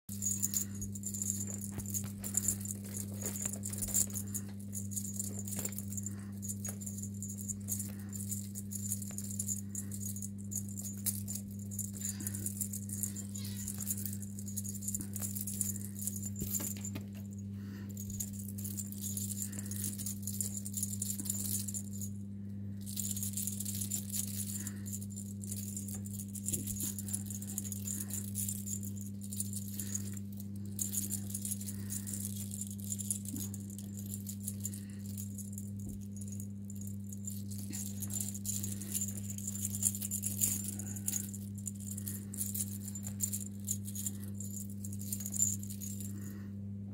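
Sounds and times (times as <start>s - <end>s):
toy rattling and jingling: 0.0s - 22.2s, 22.8s - 46.5s
low hum: 0.1s - 46.9s.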